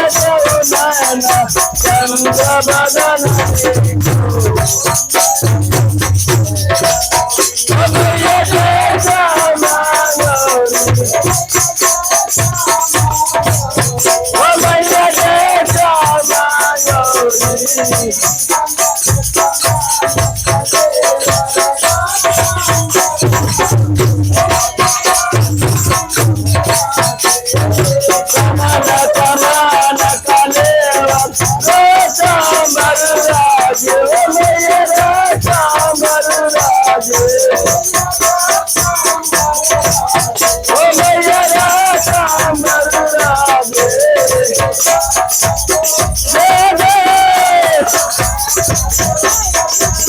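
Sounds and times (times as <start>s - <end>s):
devotional song: 0.0s - 50.0s
shakers: 0.0s - 50.0s.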